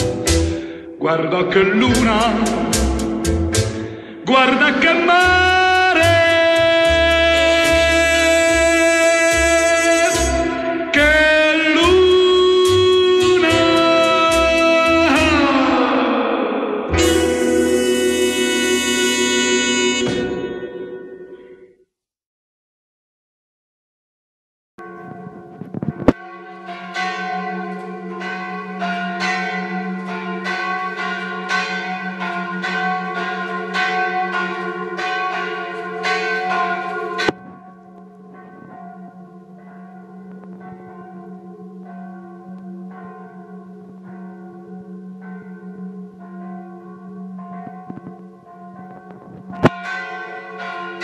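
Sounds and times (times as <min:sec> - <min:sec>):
church bells ringing: 0:00.0 - 0:21.8, 0:24.8 - 0:51.0.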